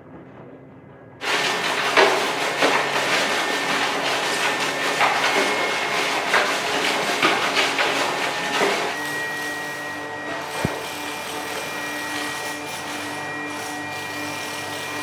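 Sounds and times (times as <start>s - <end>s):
factory machinery hissing and humming: 1.2s - 15.0s.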